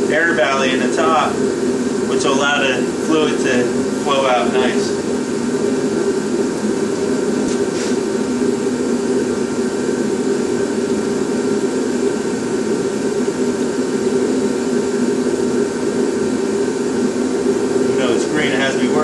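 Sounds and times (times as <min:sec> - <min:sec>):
heater blower hum: 0:00.0 - 0:19.0.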